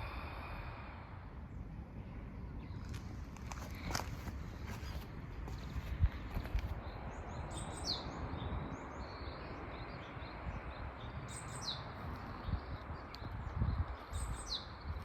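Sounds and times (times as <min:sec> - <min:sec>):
songbird chirping: 0:02.4 - 0:15.0.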